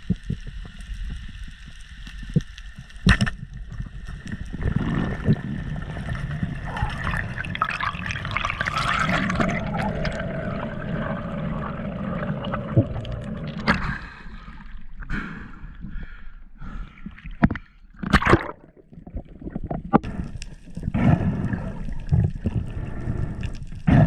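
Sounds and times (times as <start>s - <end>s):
water rushing and bubbling: 0.0s - 15.0s, 16.8s - 24.0s.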